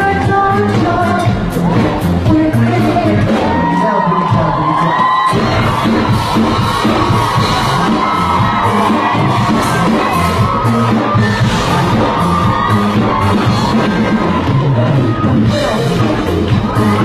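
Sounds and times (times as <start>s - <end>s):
crowd yelling and screaming: 0.0s - 17.0s
loud live pop music: 0.0s - 17.0s.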